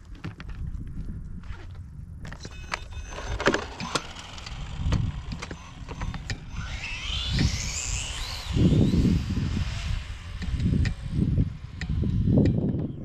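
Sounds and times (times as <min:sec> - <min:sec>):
electric motor whining: 0:02.3 - 0:13.0.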